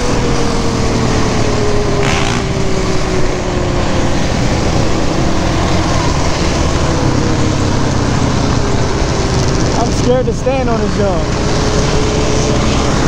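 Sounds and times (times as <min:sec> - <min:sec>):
quad engine cruising: 0:00.0 - 0:13.0
wind rush on microphone: 0:00.0 - 0:13.0.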